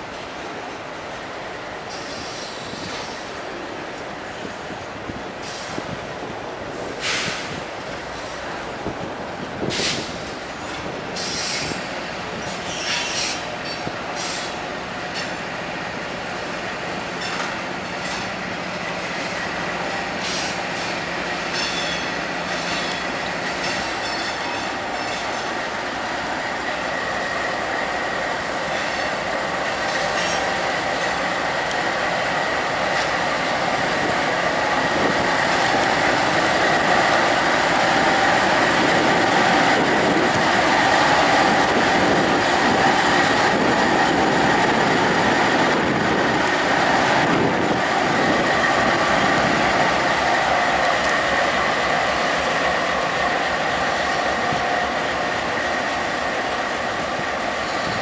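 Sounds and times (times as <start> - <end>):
diesel locomotive passing: 0.0 - 58.0
freight train wheels clicking on track: 0.0 - 58.0.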